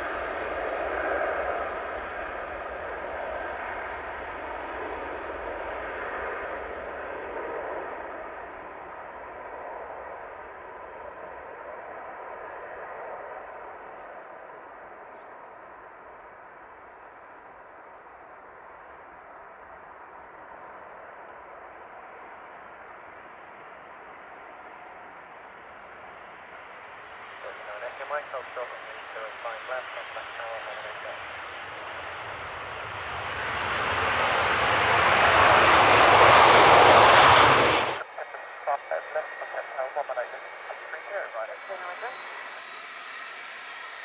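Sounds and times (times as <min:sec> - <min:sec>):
jet engines roaring at takeoff: 0:00.0 - 0:44.0.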